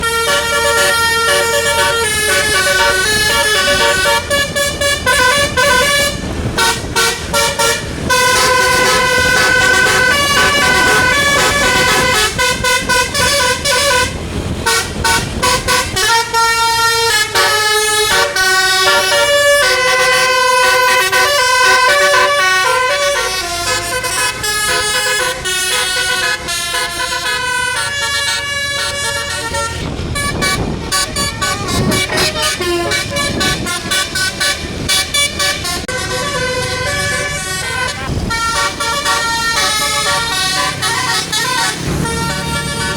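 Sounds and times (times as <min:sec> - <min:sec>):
bus engine running: 0:00.0 - 0:42.9
multi-tone musical bus horn melody: 0:00.0 - 0:42.9.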